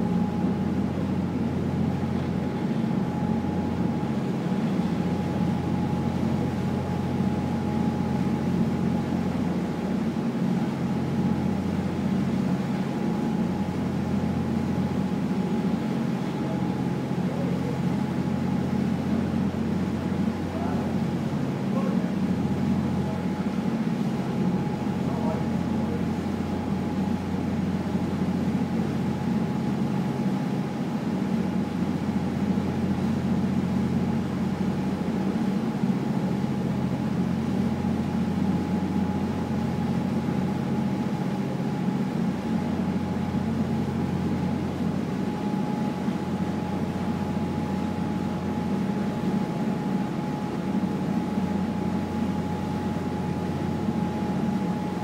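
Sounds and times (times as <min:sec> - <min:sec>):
faint steady whine: 0:00.0 - 0:55.0.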